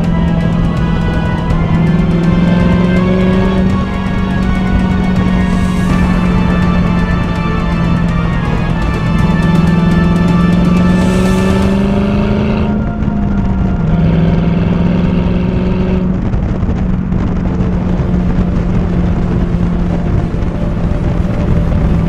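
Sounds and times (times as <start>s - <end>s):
car engine running: 0.0s - 22.0s
wind rushing on microphone: 0.0s - 22.0s.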